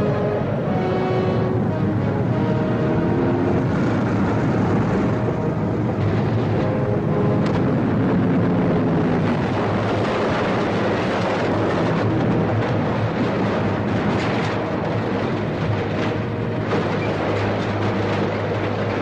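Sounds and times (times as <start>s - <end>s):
aircraft radial engines droning: 0.0s - 19.0s.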